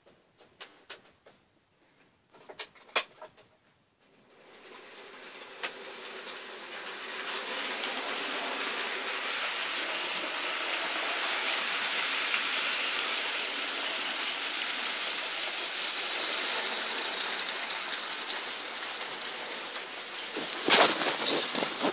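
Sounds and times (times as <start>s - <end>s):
model train wheels and motor rolling: 4.0s - 21.9s.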